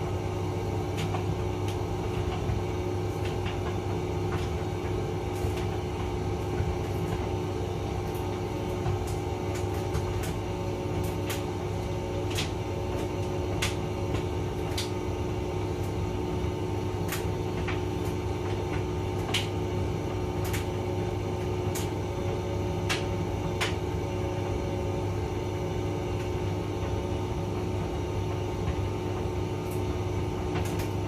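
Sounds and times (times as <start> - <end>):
tumble dryer humming: 0.0 - 31.0.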